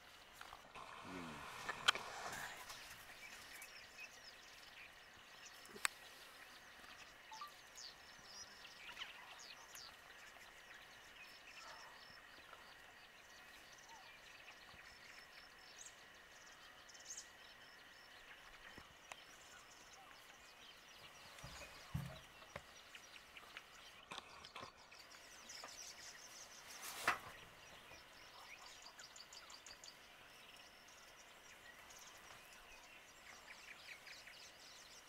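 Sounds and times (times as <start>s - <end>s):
faint bird chirps: 0.0s - 35.0s.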